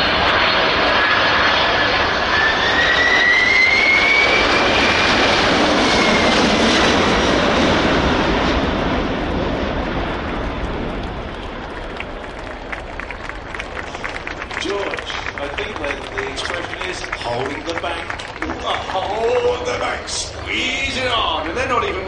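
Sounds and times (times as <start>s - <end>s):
high engine whine rising: 0.0s - 22.0s
jet engines roaring: 0.0s - 22.0s.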